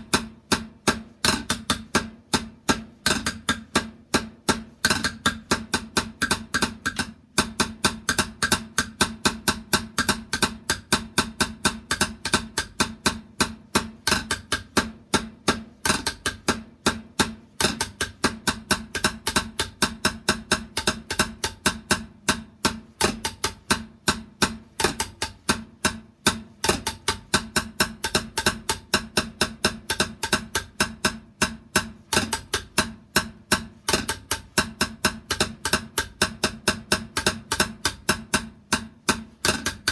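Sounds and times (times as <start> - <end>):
fast drum strokes: 0.0 - 39.9.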